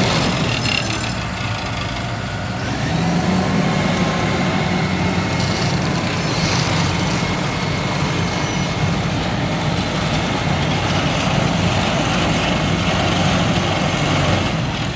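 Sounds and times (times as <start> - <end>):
diesel engine running: 0.0 - 14.9
paving machinery noise: 0.0 - 14.9.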